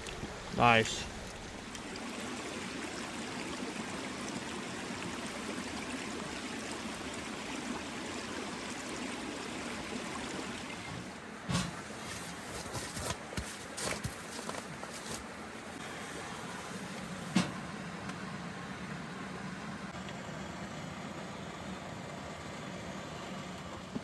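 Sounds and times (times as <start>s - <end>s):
creek water flowing over rocks: 0.0s - 19.9s.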